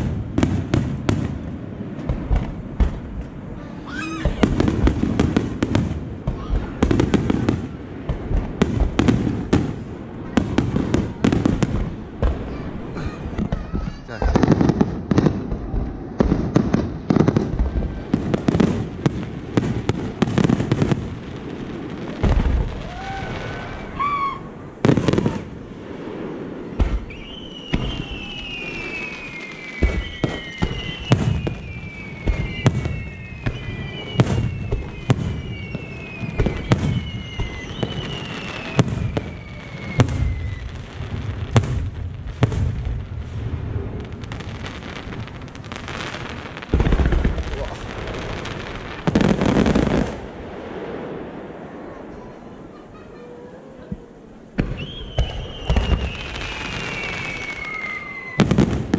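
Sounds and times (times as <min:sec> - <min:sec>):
falling firework whistles: 0:00.0 - 0:58.9
fireworks booming and crackling: 0:00.0 - 0:58.9
rising firework whistle: 0:00.0 - 0:58.9.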